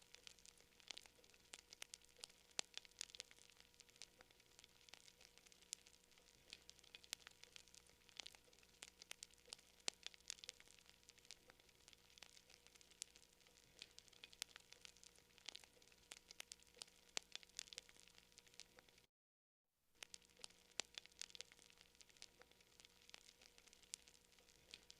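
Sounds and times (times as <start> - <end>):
faint hiss and hum: 0.0 - 19.1, 20.0 - 24.9
wood fire crackling: 0.0 - 19.1, 20.0 - 24.9.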